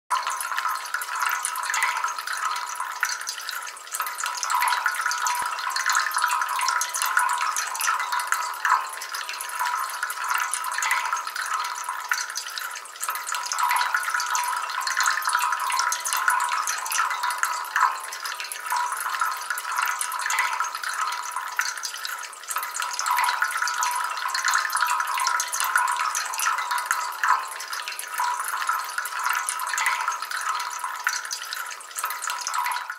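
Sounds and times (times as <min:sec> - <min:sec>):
fountain water trickling: 0:00.1 - 0:32.9.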